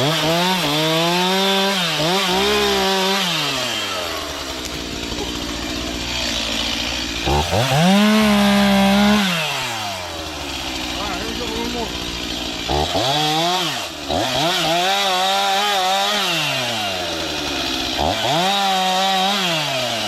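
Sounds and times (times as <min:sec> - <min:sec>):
chainsaw idling: 0:00.0 - 0:20.0
chainsaw revving: 0:00.0 - 0:20.0.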